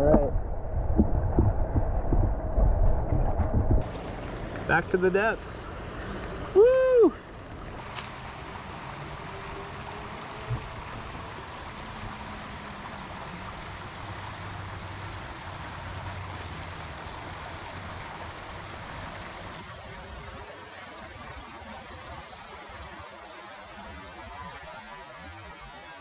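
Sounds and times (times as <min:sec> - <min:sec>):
creek running over rocks: 0:03.8 - 0:26.0.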